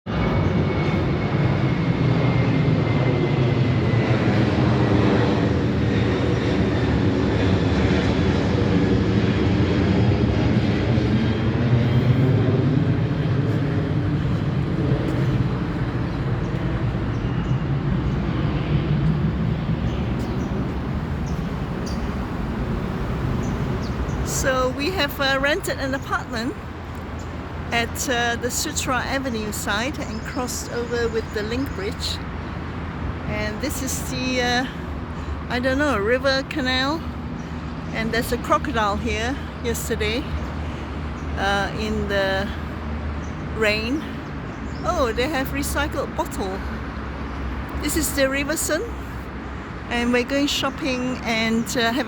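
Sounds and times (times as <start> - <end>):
jet airliner passing overhead: 0.1 - 52.0.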